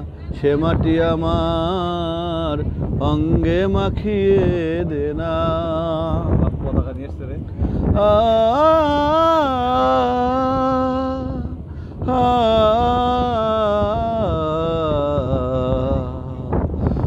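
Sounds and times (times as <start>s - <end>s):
man singing long notes: 0.4s - 6.6s, 7.8s - 17.0s.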